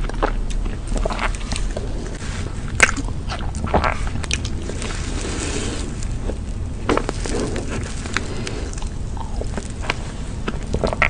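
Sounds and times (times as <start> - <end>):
slurping: 0.0 - 11.0.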